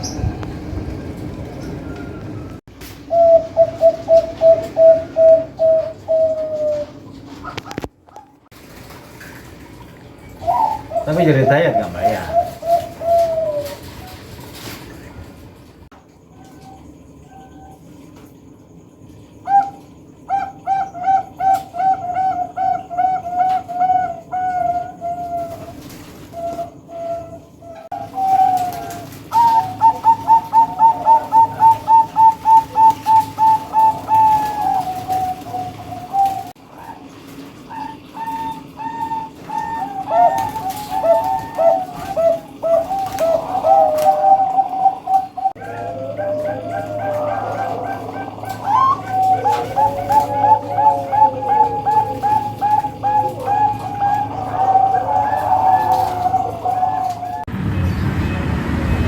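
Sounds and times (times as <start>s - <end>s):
birds whistling calls: 0.0s - 0.4s, 1.6s - 7.6s, 10.4s - 14.2s, 19.4s - 57.5s.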